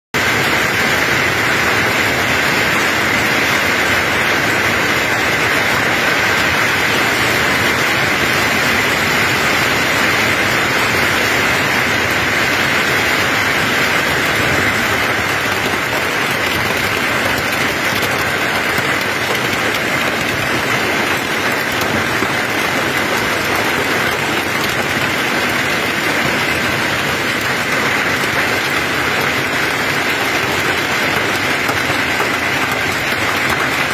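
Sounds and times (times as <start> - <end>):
hail and rain falling hard: 0.2 - 33.9.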